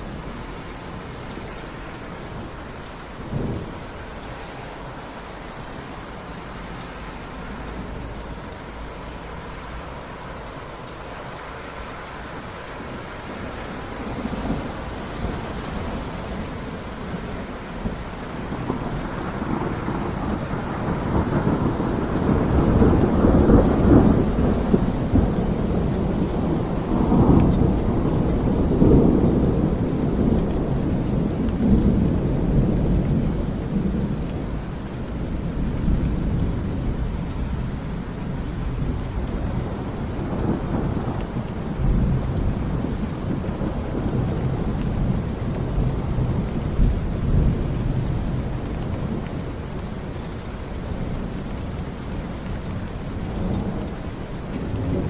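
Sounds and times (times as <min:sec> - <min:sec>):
rolling thunder: 0:00.0 - 0:09.4, 0:12.7 - 0:50.1
steady rain falling: 0:00.0 - 0:55.0.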